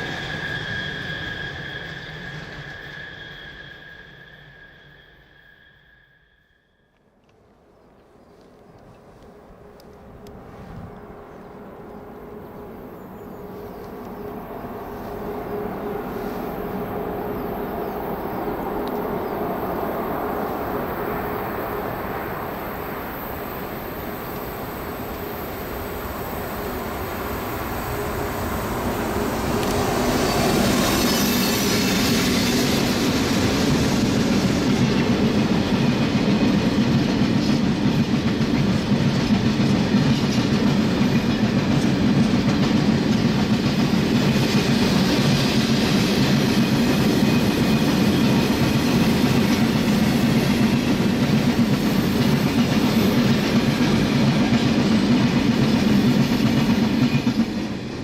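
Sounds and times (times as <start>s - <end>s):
train wheels on rail: 0.0s - 58.0s.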